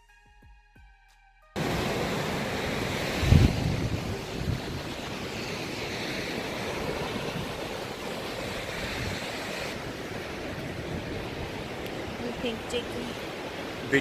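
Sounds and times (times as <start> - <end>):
wind rumbling on microphone: 1.6 - 13.8
ocean surf breaking: 1.6 - 14.0.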